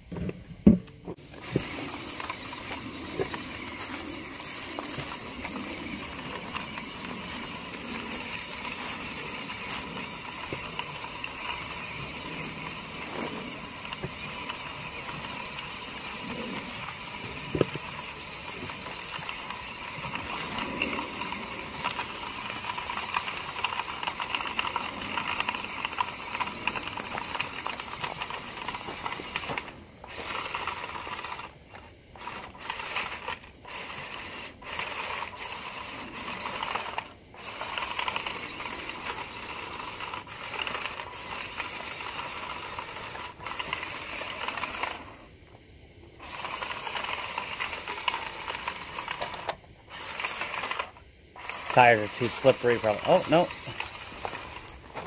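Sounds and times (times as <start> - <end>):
electric motor whining: 0.8 - 45.3, 46.2 - 55.0.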